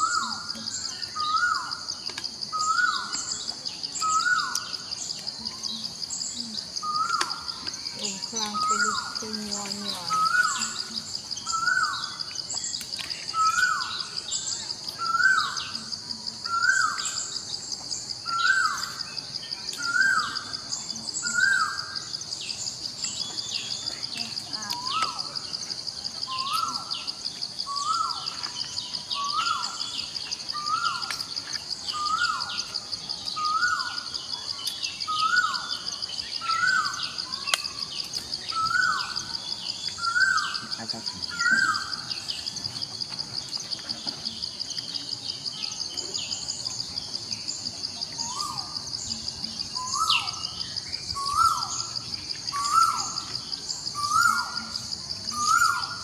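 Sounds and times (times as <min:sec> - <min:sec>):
bird chirps: 0:00.0 - 0:56.0
pulsing insect drone: 0:00.0 - 0:56.0.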